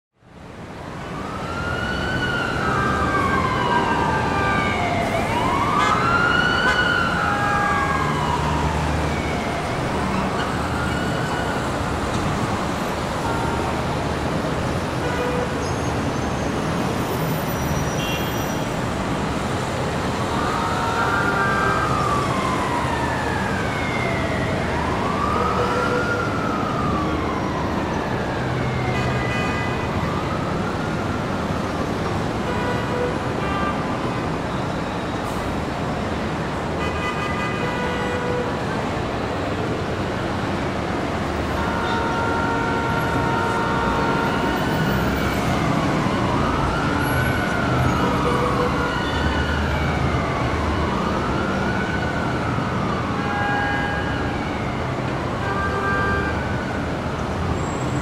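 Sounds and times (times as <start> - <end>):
city street traffic hum: 0.2 - 58.0
emergency vehicle siren wailing: 0.4 - 58.0.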